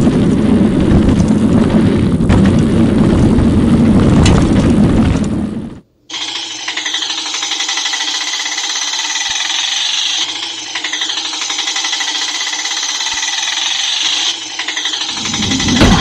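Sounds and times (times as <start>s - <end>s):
rickshaw engine rattle: 0.0s - 16.0s.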